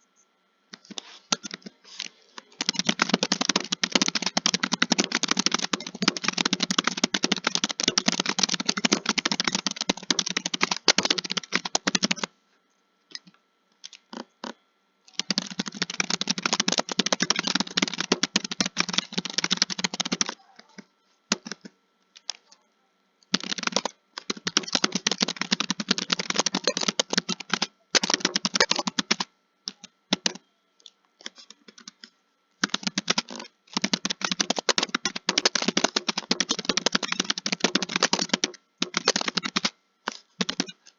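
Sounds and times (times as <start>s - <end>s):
fast typing on keyboard: 2.4s - 12.3s, 14.2s - 21.7s, 23.3s - 30.4s, 31.3s - 32.0s, 32.6s - 40.8s.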